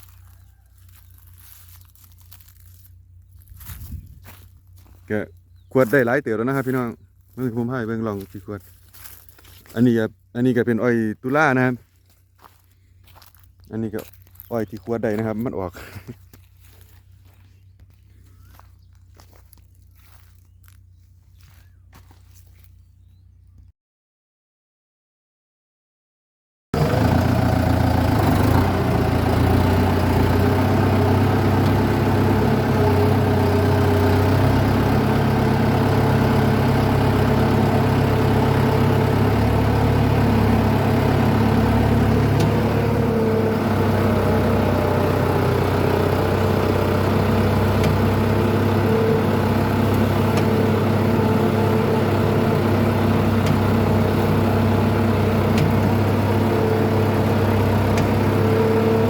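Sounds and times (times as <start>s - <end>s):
tractor diesel engine running: 0.0s - 23.7s, 26.8s - 59.0s.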